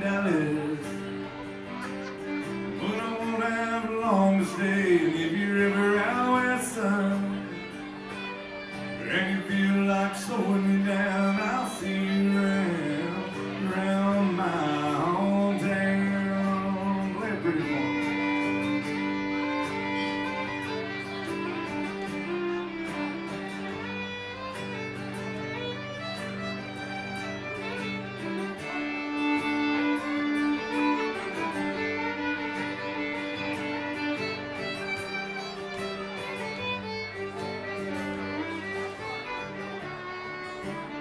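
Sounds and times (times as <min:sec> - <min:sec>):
bowed fiddle melody: 0:00.0 - 0:41.0
strummed acoustic guitar: 0:00.0 - 0:41.0.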